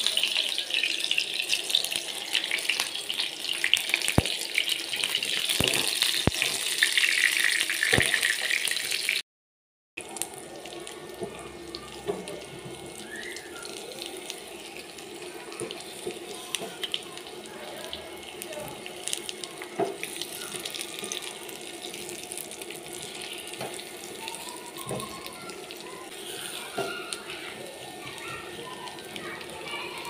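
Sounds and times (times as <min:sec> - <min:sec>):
food sizzling in oil: 0:00.0 - 0:09.2, 0:10.0 - 0:30.0.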